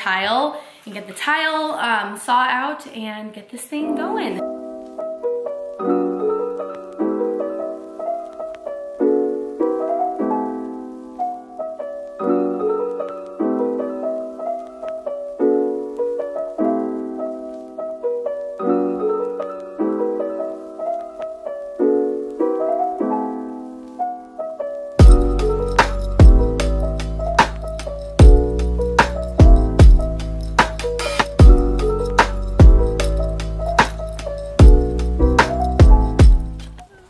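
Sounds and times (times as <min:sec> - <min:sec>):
piano chords: 0:03.8 - 0:36.9.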